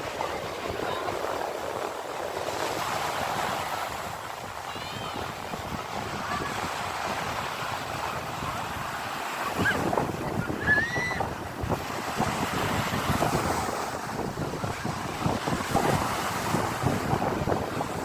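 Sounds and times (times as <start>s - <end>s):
surf washing onto shore: 0.0s - 18.0s.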